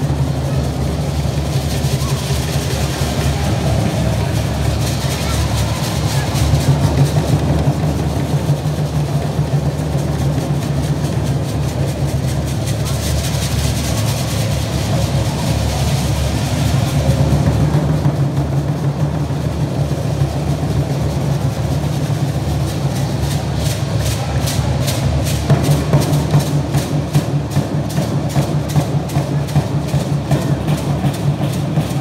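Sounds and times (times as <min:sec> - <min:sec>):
large drums beaten steadily: 0:00.0 - 0:32.0.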